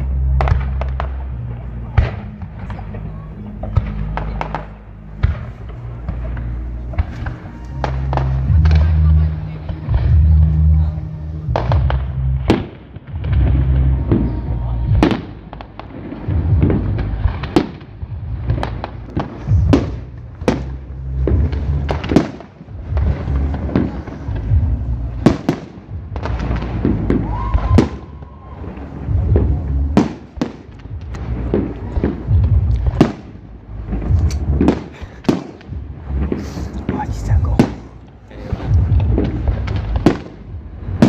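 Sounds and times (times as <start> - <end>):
deep firework booms: 0.0 - 41.0
fireworks sharp bangs: 0.0 - 41.0.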